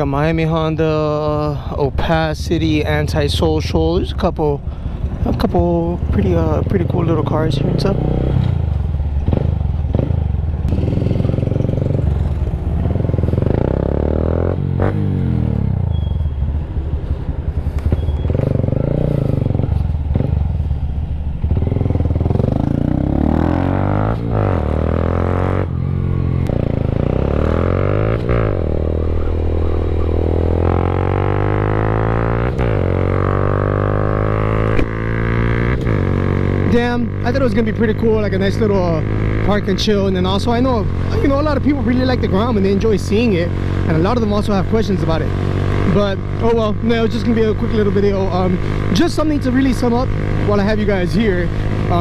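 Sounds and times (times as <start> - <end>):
motorcycle engine revving: 4.8 - 52.0.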